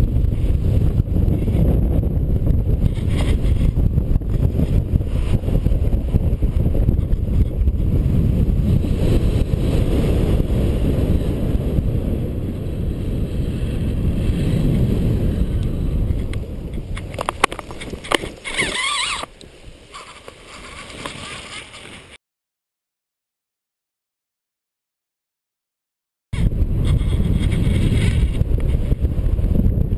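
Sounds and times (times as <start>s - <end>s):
wind rushing over microphone: 0.0s - 22.2s, 26.3s - 29.9s.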